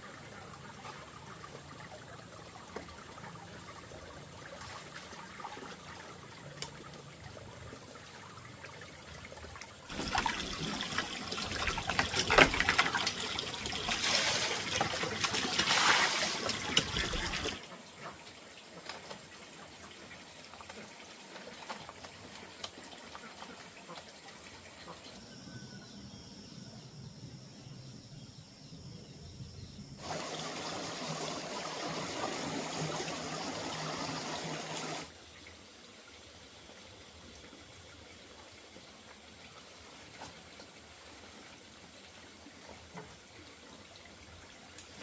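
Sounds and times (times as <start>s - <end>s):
water pouring and splashing: 0.0s - 25.2s, 30.0s - 45.0s.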